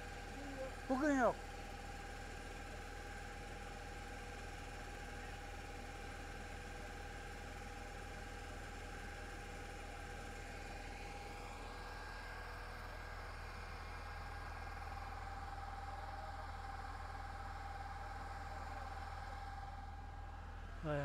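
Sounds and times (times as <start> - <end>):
engine running with whine: 0.0 - 21.0.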